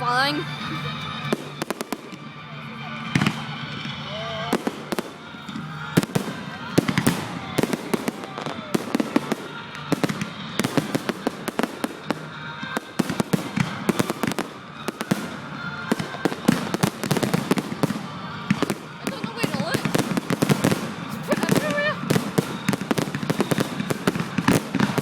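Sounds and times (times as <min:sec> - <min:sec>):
fireworks cracking and popping: 0:00.0 - 0:25.0
loud firework bangs: 0:03.1 - 0:25.0.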